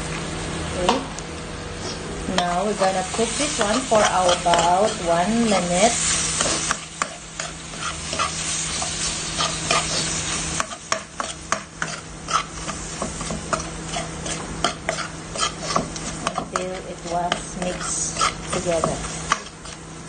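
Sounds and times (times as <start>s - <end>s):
food sizzling in a frying pan: 1.7s - 20.0s
spoon scraping a pan: 1.8s - 19.8s.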